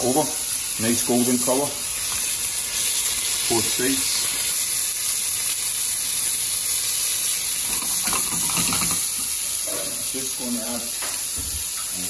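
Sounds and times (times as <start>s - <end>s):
fish sizzling in frying pan: 0.0s - 12.0s.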